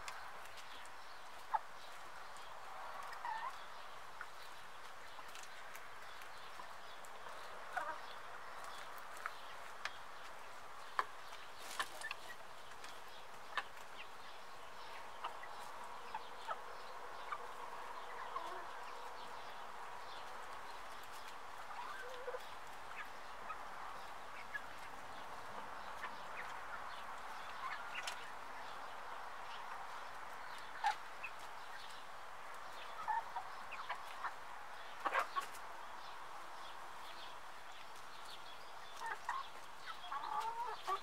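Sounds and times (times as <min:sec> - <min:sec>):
chickens clucking softly: 0:00.0 - 0:41.0.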